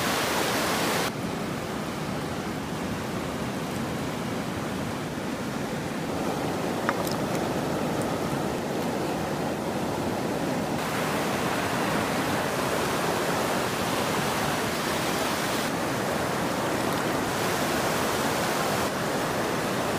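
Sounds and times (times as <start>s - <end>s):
river rushing over rocks: 0.0s - 19.9s.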